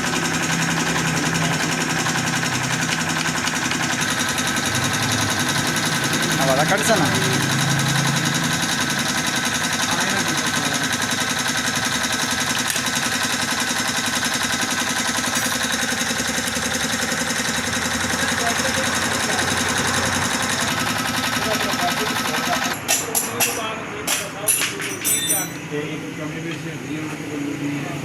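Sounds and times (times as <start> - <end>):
small motorcycle engine idling: 0.0 - 22.8.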